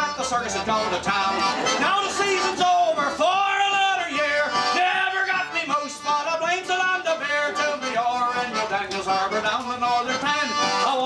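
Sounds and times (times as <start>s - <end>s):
band playing: 0.0s - 11.0s
man singing a folk song: 0.0s - 11.0s.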